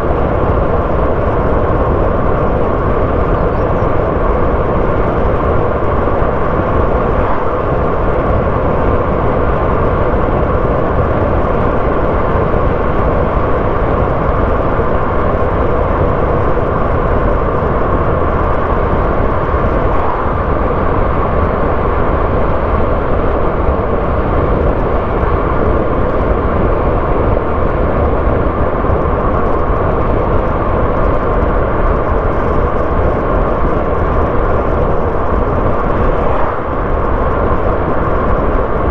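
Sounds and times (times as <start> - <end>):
car engine and tyre noise: 0.0 - 38.9.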